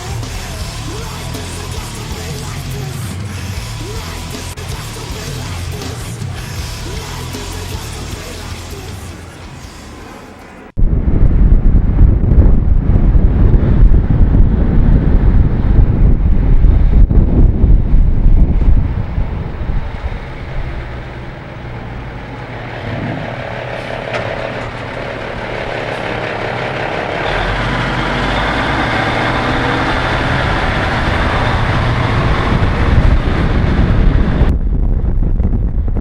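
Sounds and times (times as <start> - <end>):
diesel truck engine running: 0.0 - 34.5.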